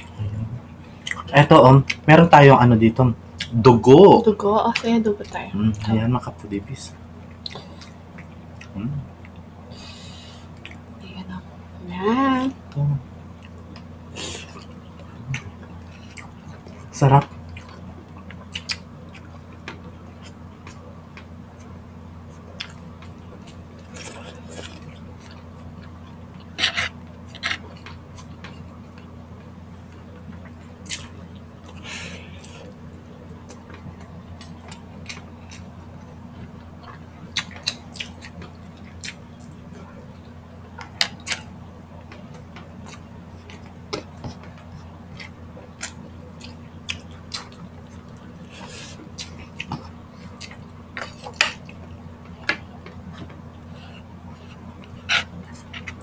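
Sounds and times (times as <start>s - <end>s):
chewing and mouth sounds: 0.0s - 2.1s, 7.2s - 9.5s, 10.4s - 10.9s, 13.3s - 56.0s
steady low hum: 0.0s - 56.0s.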